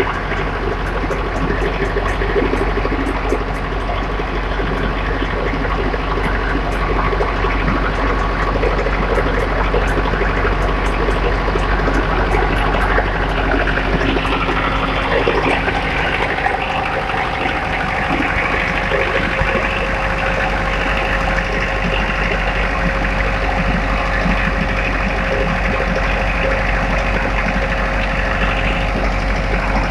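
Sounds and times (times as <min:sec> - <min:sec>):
faint steady whine: 0:00.0 - 0:29.9
wood chipper diesel engine running: 0:00.0 - 0:29.9.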